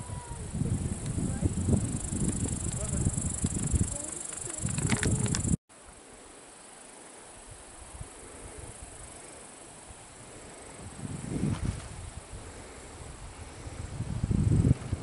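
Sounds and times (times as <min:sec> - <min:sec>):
wind rumbling on microphone: 0:00.0 - 0:05.6, 0:07.4 - 0:15.0
insects chirring: 0:00.0 - 0:15.0.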